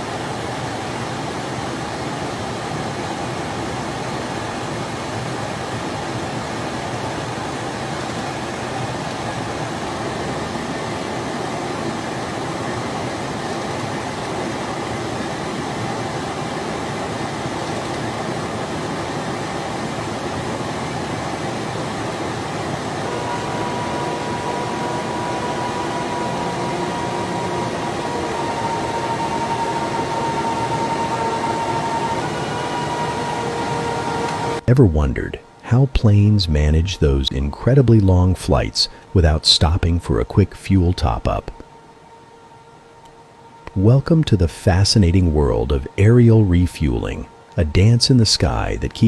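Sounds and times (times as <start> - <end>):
jet aircraft rushing in flight: 0.0 - 42.0.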